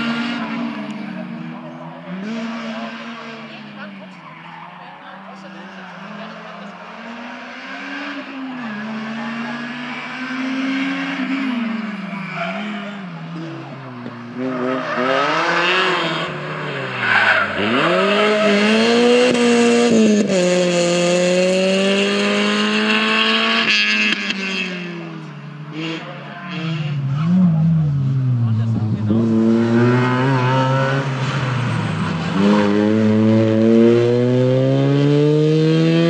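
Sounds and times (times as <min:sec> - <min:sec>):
distant rally car revving: 0:00.0 - 0:36.0
rally car engine passing: 0:00.0 - 0:36.0.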